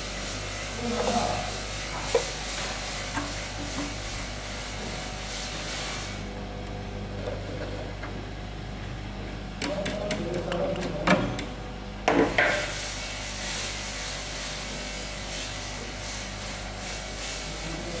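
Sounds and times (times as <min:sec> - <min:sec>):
machine steady hum: 0:00.0 - 0:18.0.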